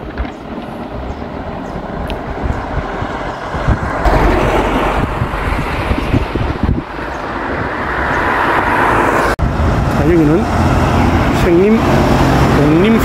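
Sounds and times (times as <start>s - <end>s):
wind buffeting microphone: 0.0s - 13.0s
vehicle passing by: 0.9s - 13.0s.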